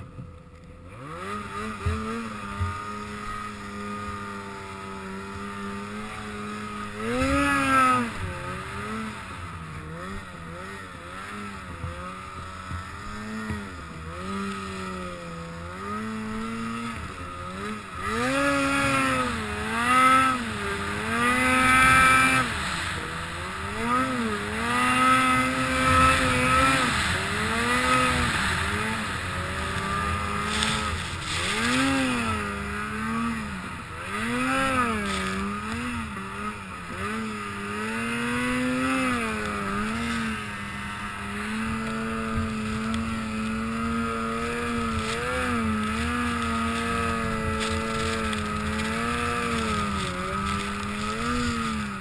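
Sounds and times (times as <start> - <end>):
snowmobile engine revving: 0.0 - 52.0.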